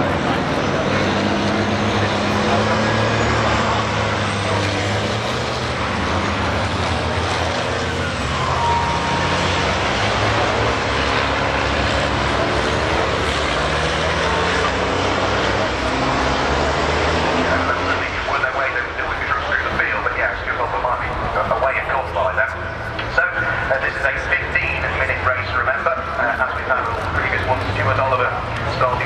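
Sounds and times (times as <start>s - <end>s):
diesel truck engines droning: 0.0s - 29.0s
road noise: 0.0s - 29.0s.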